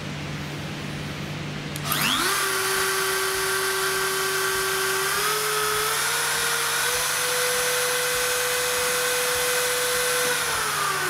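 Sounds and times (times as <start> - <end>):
router motor whine: 1.8 - 11.0.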